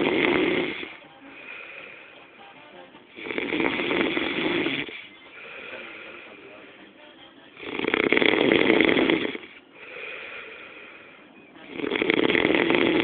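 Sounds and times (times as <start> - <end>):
man snoring heavily: 0.0 - 2.1, 3.1 - 6.5, 7.6 - 13.0.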